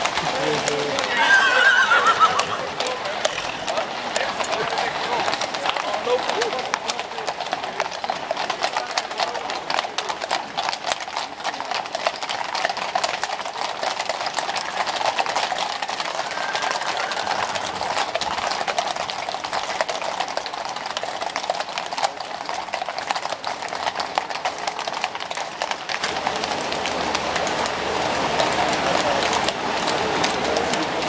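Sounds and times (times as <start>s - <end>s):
horse hooves on brick paving: 0.0s - 31.0s.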